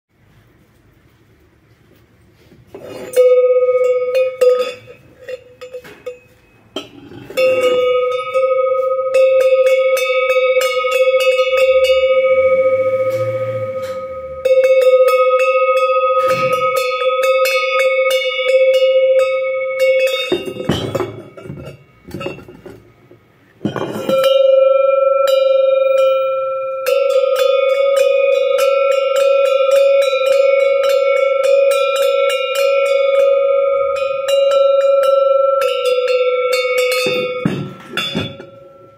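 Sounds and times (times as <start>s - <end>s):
higher-pitched bell ringing: 3.0s - 22.0s, 24.0s - 38.9s
metal bells shaken: 3.0s - 22.8s, 23.6s - 38.9s.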